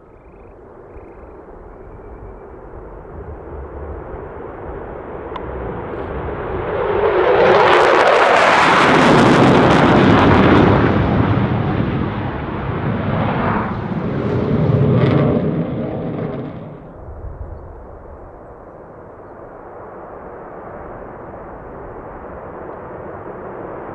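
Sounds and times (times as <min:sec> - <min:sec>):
jet aircraft flying past: 0:00.0 - 0:23.9.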